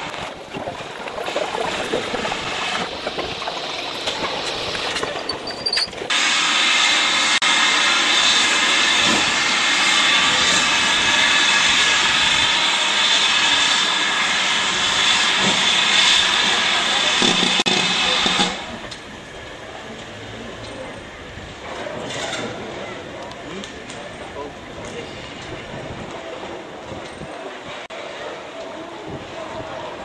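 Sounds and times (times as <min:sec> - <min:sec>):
railway station bustle: 0:00.0 - 0:30.0
steam locomotive hissing: 0:00.0 - 0:30.0.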